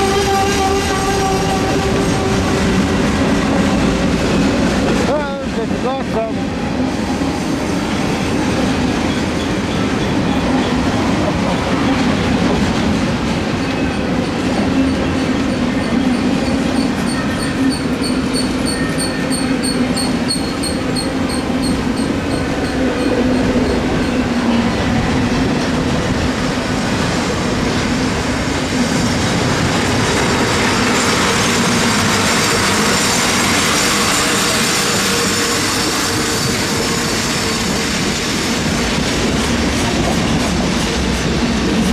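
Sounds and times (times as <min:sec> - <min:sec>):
freight train cars rolling: 0:00.0 - 0:41.9.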